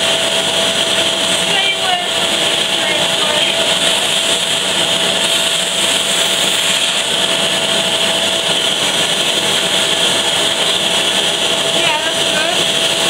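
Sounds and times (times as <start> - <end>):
vacuum cleaner whining: 0.0 - 13.0.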